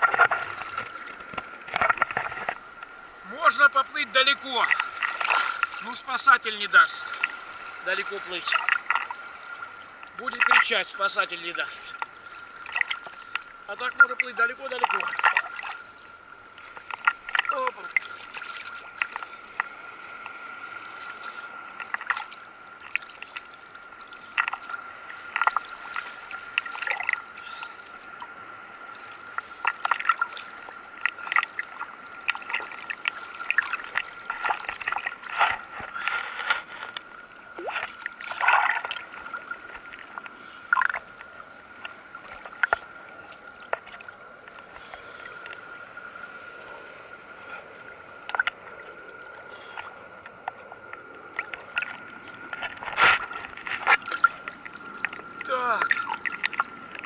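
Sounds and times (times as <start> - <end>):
water sloshing and splashing: 0.0 - 57.0.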